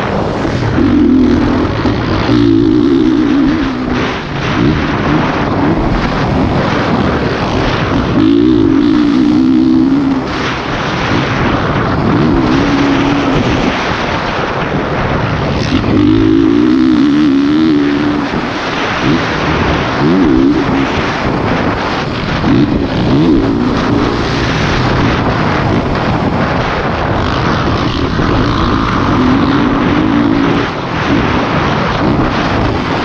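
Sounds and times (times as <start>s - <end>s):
dirt bike engine revving: 0.0s - 33.0s
wind noise on microphone: 0.0s - 33.0s.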